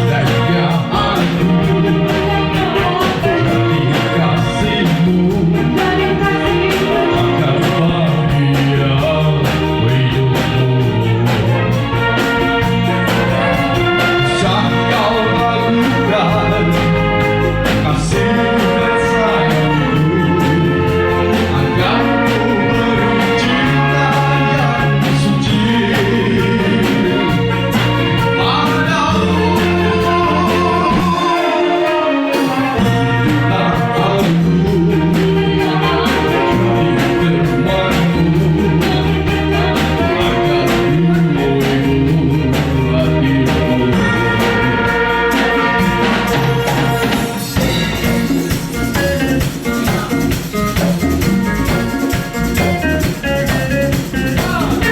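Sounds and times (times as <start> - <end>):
bass guitar: 0.0 - 54.9
drums: 0.0 - 54.9
electric guitar: 0.0 - 54.9
person singing lead vocal: 0.0 - 54.9.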